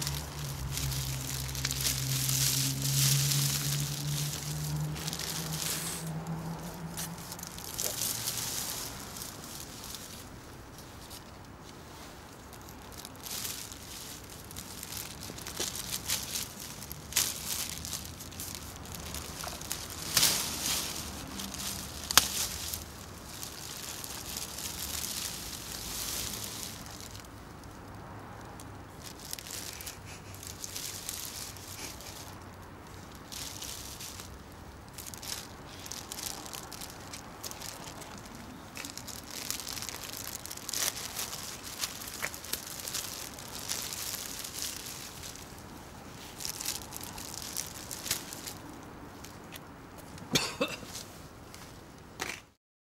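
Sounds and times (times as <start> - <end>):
plastic bags crinkling: 0.0 - 11.3, 12.4 - 27.8, 28.8 - 49.4.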